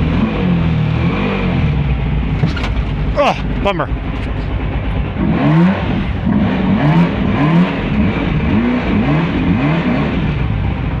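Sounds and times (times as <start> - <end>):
boat motor revving: 0.0 - 10.8.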